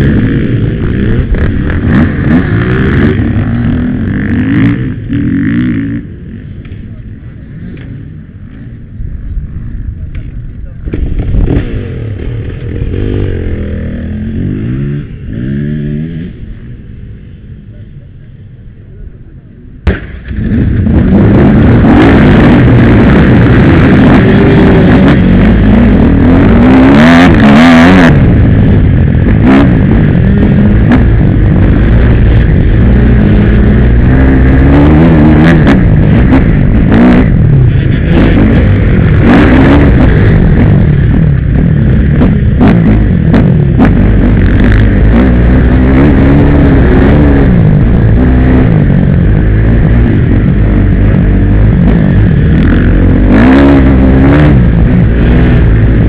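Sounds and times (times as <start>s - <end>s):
dirt bike engine at full throttle: 0.0s - 56.0s
dirt bike engines idling and revving: 0.0s - 56.0s.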